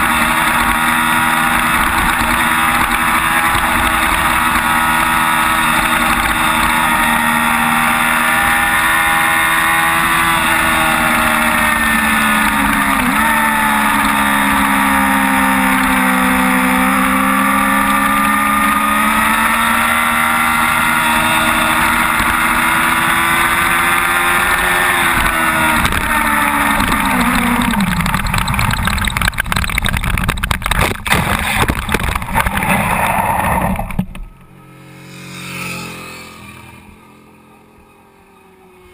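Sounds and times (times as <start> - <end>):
motorcycle engine at high revs: 0.0 - 38.9
motorcycle scraping and sliding: 0.0 - 38.9.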